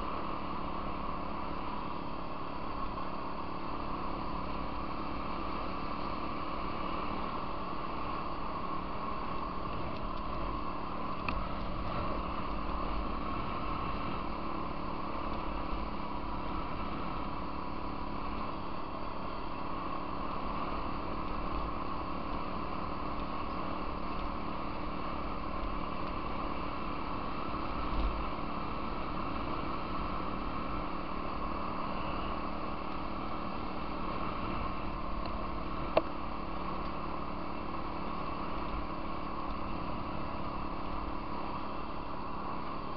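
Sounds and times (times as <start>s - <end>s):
small vehicle engine running: 0.0s - 42.9s.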